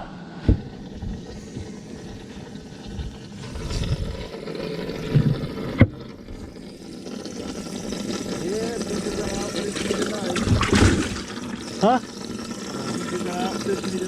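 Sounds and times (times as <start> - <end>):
water lapping against boat hull: 0.4 - 14.0.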